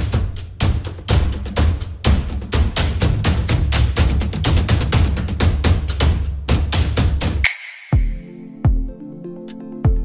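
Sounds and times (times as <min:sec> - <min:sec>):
music with fast drum beat and bass: 0:00.0 - 0:08.9.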